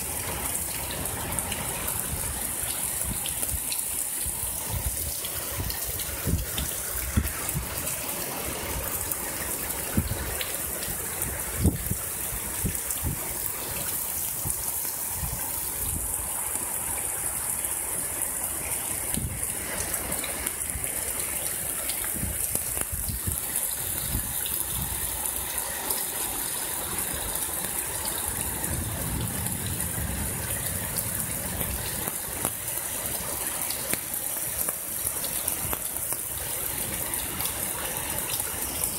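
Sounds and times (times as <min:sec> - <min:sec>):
heavy rain pouring: 0:00.0 - 0:38.9
running water: 0:00.0 - 0:38.9.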